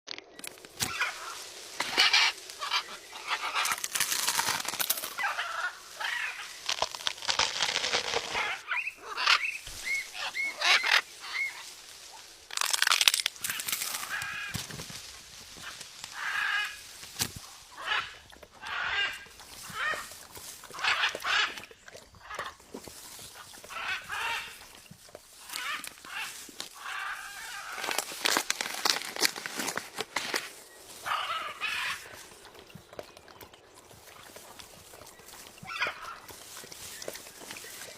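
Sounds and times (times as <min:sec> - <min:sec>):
birds calling: 0:00.4 - 0:37.9.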